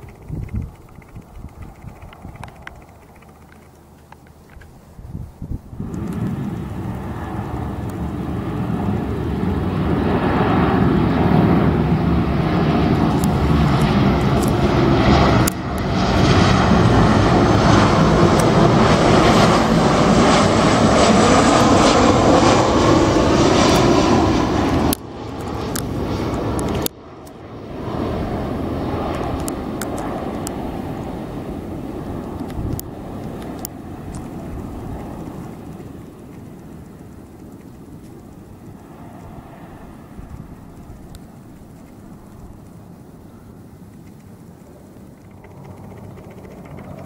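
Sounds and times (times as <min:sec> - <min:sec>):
airliner engines: 0:00.0 - 0:47.0.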